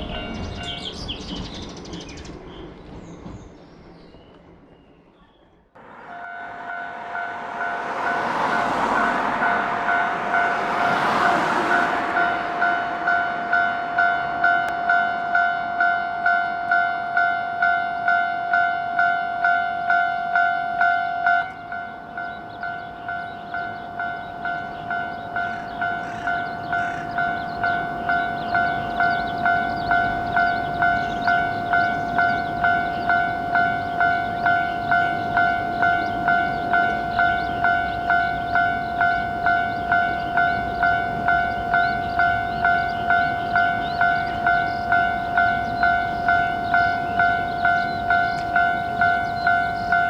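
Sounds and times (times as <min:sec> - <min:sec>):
railroad crossing alarm ringing: 0:00.0 - 0:01.4, 0:05.8 - 0:50.0
train passing: 0:00.0 - 0:50.0.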